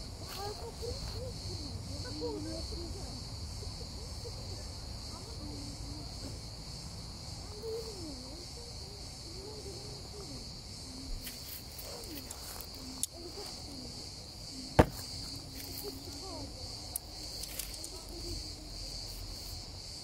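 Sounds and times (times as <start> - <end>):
faint voices: 0.0 - 19.8
high-pitched insect chorus: 0.0 - 20.0.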